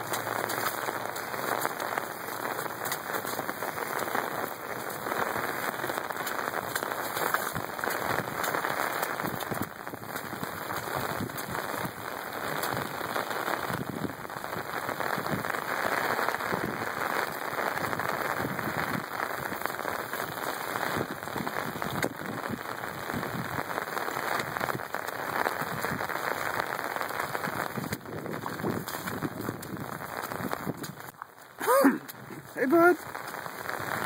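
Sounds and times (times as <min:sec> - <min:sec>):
raindrops ticking: 0:00.0 - 0:34.0
steady rain falling: 0:00.0 - 0:34.0.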